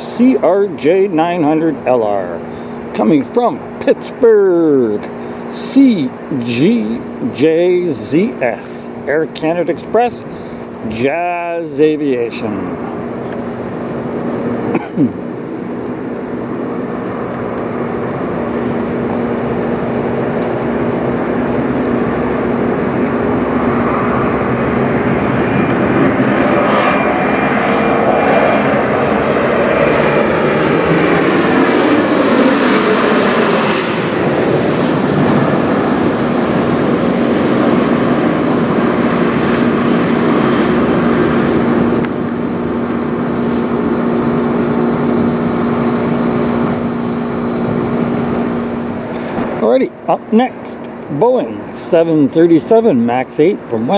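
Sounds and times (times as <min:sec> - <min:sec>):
jet flying over: 0:00.0 - 0:53.9.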